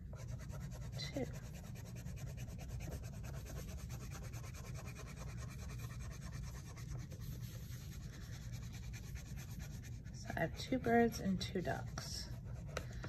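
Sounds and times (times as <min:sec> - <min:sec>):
crayon scribbling on paper: 0:00.0 - 0:13.0
steady low hum: 0:00.0 - 0:13.0.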